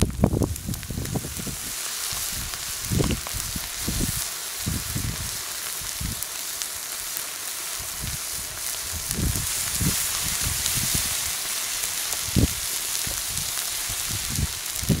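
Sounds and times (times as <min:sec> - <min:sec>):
can hissing and sizzling: 0:00.0 - 0:15.0.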